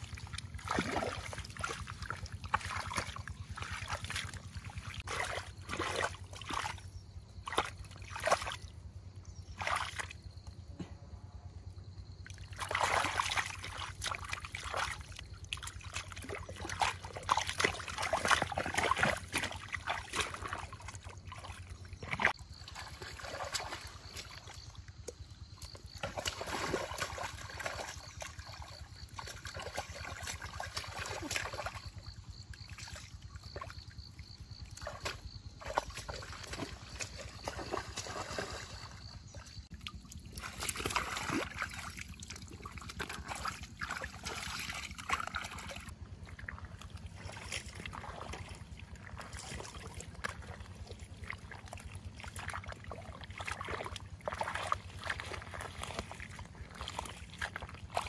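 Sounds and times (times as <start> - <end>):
faint low hum: 0.0 - 58.0
water sloshing and splashing: 0.0 - 58.0.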